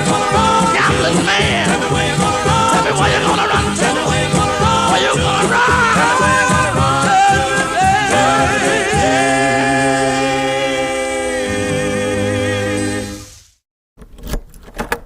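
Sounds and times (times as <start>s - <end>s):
male gospel quartet singing: 0.0s - 13.3s.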